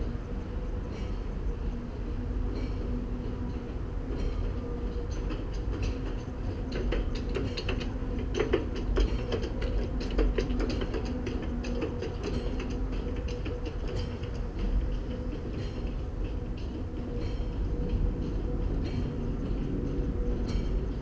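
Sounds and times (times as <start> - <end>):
railway car rumble and hum: 0.0 - 21.0.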